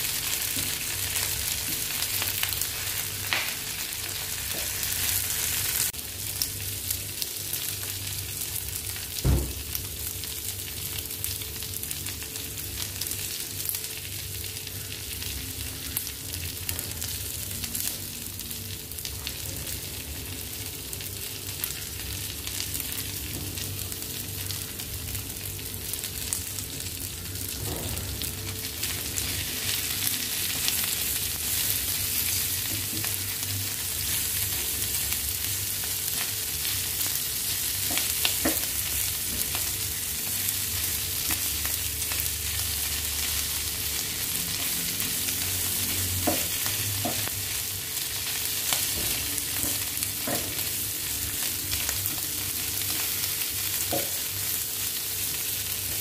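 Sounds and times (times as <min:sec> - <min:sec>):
meat sizzling in a hot pan: 0:00.0 - 0:56.0.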